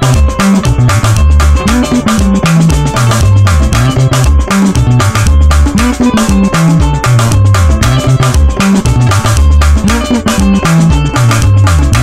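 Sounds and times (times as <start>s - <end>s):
drum kit backing track: 0.0s - 12.0s
electric bass line: 0.0s - 12.0s.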